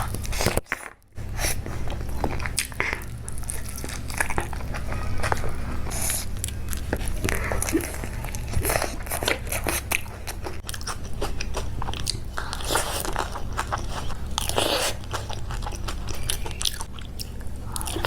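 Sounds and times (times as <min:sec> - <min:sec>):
crunching and chewing: 0:00.0 - 0:18.0
steady low hum: 0:00.0 - 0:18.0.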